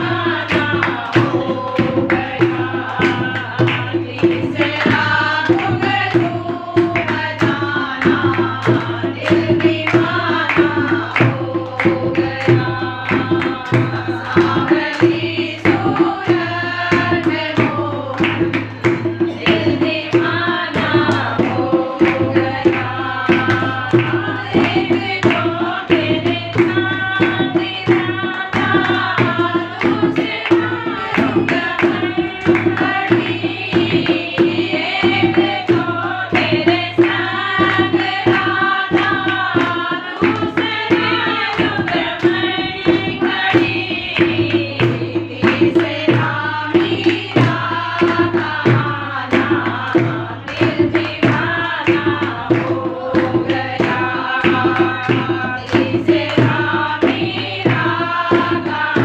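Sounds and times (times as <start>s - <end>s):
barrel drum beat: 0.0s - 59.0s
hand clapping: 0.0s - 59.0s
women singing together: 0.0s - 59.0s.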